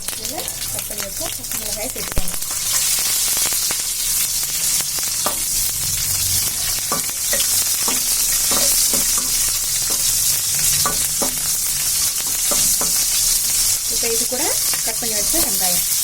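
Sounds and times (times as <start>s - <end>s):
seeds frying in hot oil: 0.0s - 16.0s
spatula scraping a pan: 2.5s - 16.0s.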